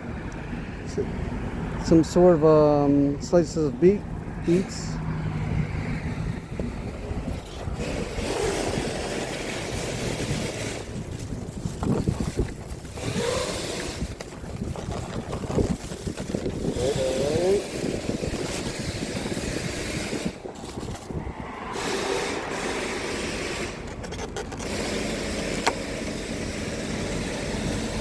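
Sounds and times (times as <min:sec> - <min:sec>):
passing traffic rumble: 0:00.0 - 0:28.0
wind on microphone: 0:03.1 - 0:25.8.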